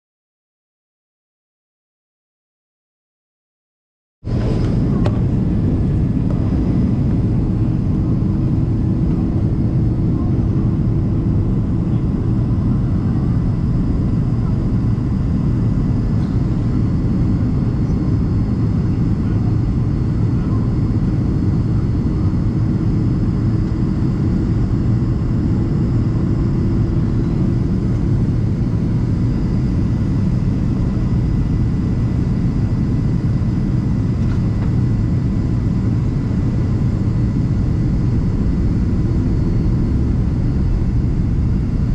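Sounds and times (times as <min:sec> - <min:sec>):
airplane engines droning: 0:04.2 - 0:41.9.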